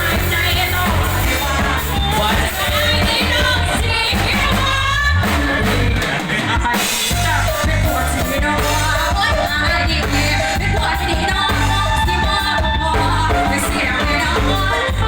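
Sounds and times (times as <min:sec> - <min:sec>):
band with steady drum beat: 0:00.0 - 0:15.0
woman singing pop song: 0:00.0 - 0:15.0.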